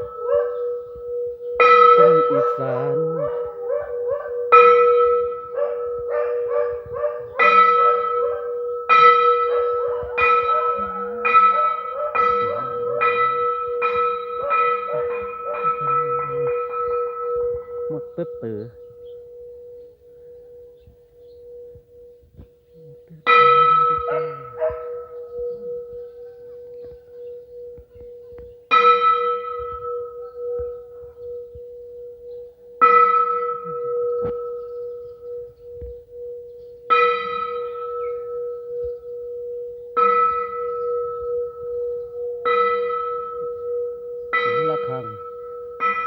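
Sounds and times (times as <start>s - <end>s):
temple bell ringing: 0.0s - 46.0s.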